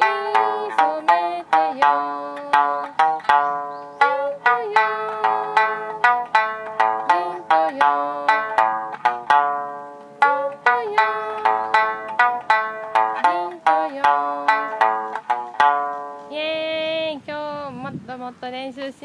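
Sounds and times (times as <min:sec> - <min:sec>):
plucked lute melody: 0:00.0 - 0:16.7.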